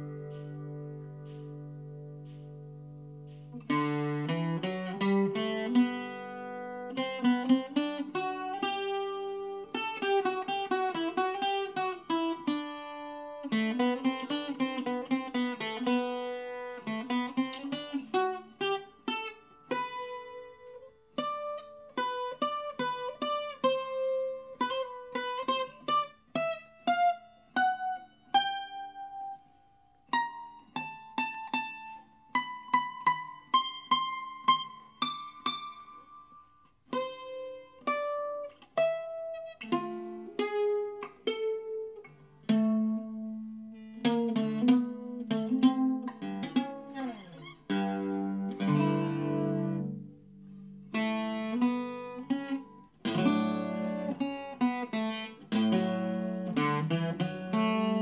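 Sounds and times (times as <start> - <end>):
mandolin picked melody: 0.0 - 58.0.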